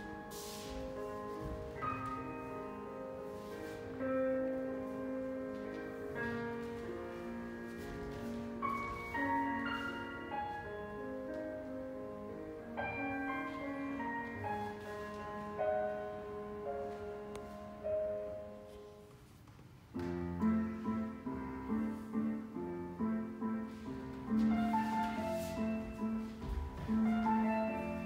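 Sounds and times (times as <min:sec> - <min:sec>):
classical piano music: 0:00.0 - 0:28.0.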